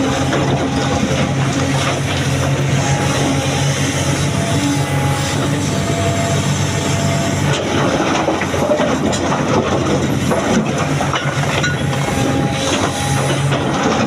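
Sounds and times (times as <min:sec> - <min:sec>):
diesel excavator engine hum: 0:00.0 - 0:14.0
machinery clatter and knocks: 0:00.0 - 0:14.0.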